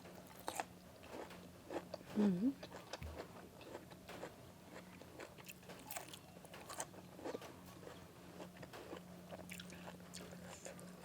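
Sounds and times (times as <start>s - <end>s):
person chewing crunchy food: 0.2s - 11.0s.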